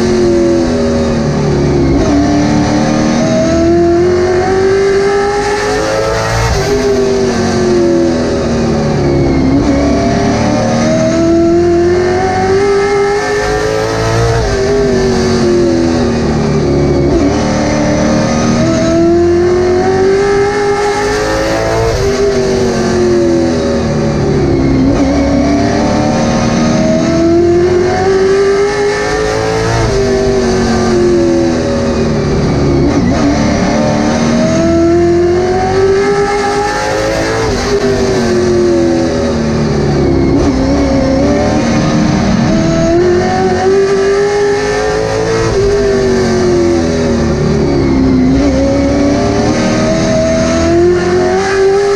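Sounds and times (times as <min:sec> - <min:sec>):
racing car engine revving: 0:00.0 - 0:51.9.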